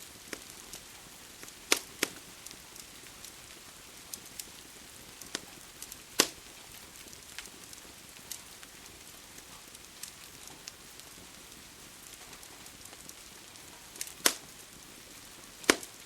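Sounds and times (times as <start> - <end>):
rain hissing: 0.0 - 16.0
wood fire crackling: 0.0 - 16.0.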